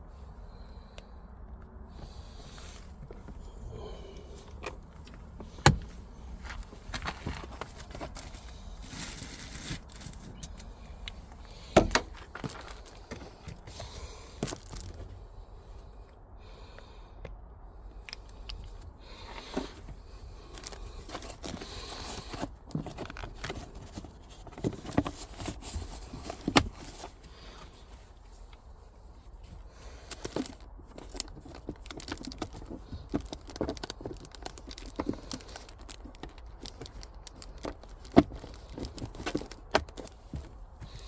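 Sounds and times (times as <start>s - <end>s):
plastic parts clicking and scraping: 4.2s - 15.2s, 18.0s - 28.7s, 29.3s - 41.0s.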